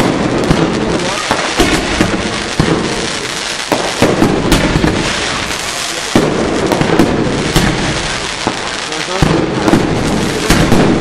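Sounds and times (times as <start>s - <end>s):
dense fireworks noise: 0.0s - 11.0s
fireworks shells bursting: 0.0s - 11.0s.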